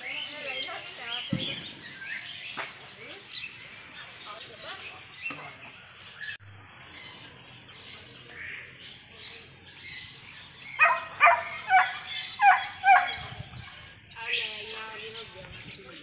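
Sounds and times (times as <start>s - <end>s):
birds chirping: 0.0s - 16.0s
loud bird calls: 0.0s - 16.0s.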